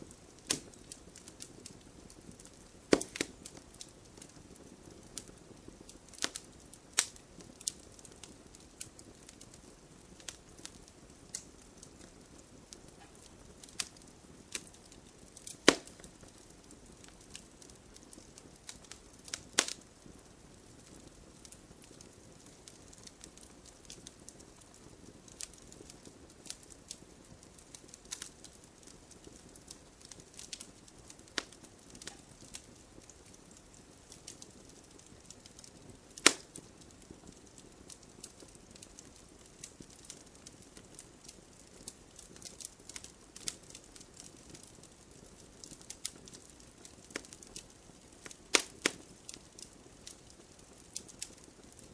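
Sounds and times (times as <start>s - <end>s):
campfire crackling: 0.0s - 51.9s
loud fire pops: 0.1s - 51.9s.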